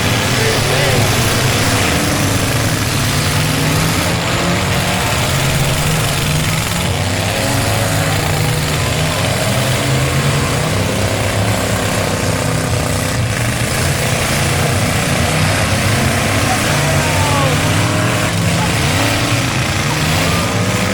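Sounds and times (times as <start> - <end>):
car engines revving: 0.0 - 20.9.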